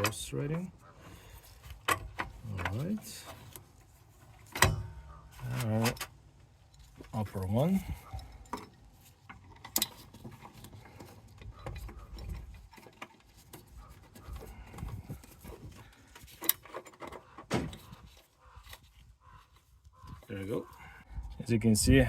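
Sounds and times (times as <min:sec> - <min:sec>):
light handling noises: 0:00.0 - 0:22.0.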